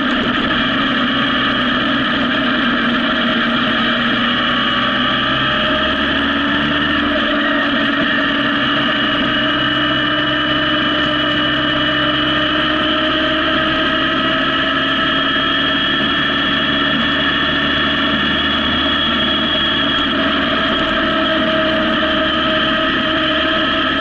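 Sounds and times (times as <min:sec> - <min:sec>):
motorcycle engine cruising: 0:00.0 - 0:24.0
wind noise: 0:00.0 - 0:24.0.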